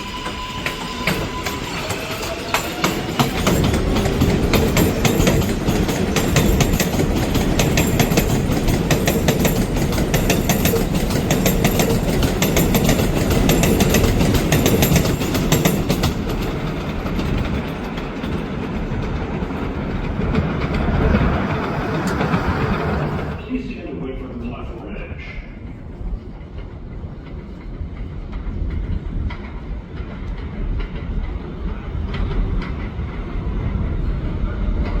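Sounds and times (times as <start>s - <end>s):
train wheels clattering over rail joints: 0.0s - 23.4s, 26.2s - 35.0s
train running on elevated track: 0.0s - 35.0s.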